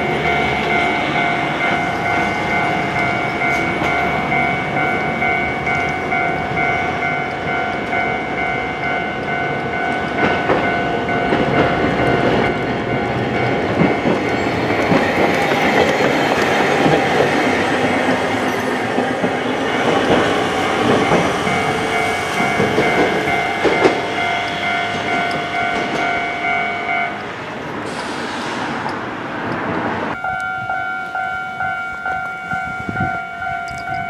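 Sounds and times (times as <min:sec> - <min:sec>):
level crossing warning bell: 0:00.0 - 0:27.6, 0:30.1 - 0:34.0
tram wheels on rails: 0:00.0 - 0:34.0.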